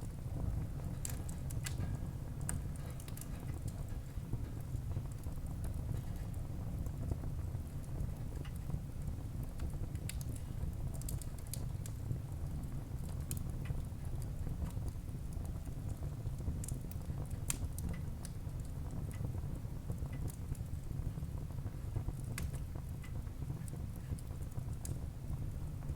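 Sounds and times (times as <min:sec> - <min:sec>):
burning wood crackling and popping: 0:00.0 - 0:25.9
low rumble of flames: 0:00.0 - 0:25.9.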